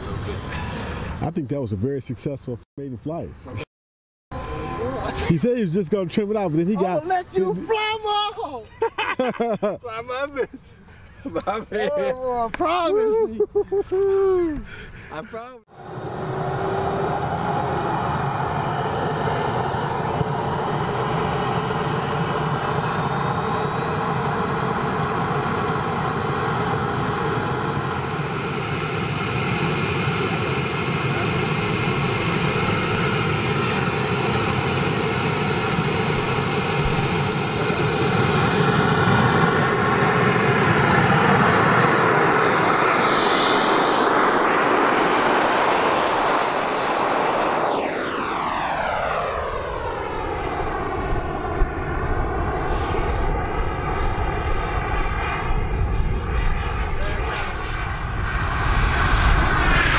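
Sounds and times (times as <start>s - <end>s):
model jet turbine engine whining: 0.0s - 1.3s, 4.3s - 8.6s, 15.7s - 59.9s.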